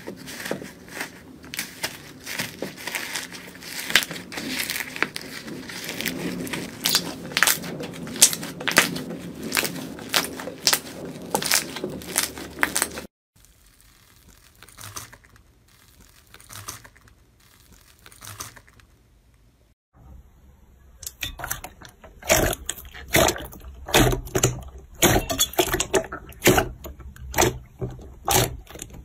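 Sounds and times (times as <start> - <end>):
slime crackling and crunching: 0.0 - 19.0, 21.0 - 29.0.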